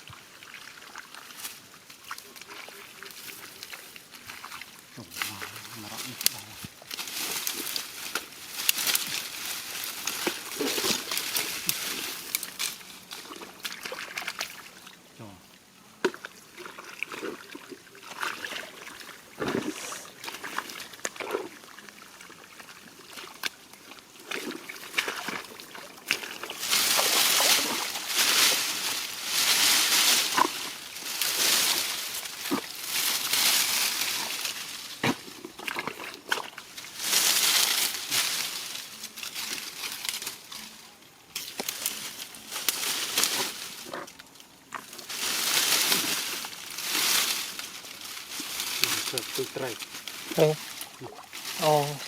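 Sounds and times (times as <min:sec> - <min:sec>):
water sloshing and splashing: 0:00.0 - 0:15.1, 0:16.0 - 0:40.6, 0:41.3 - 0:52.0.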